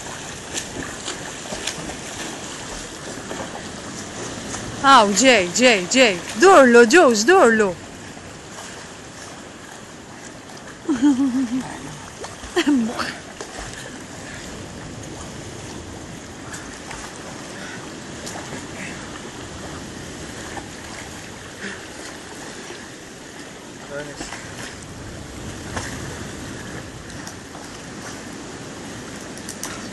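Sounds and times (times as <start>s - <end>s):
seawater sloshing and splashing: 0.0s - 29.9s.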